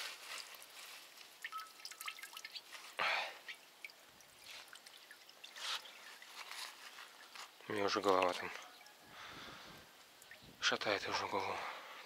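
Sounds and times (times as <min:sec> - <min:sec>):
tar dripping into bucket: 0:00.2 - 0:09.3, 0:09.9 - 0:11.4.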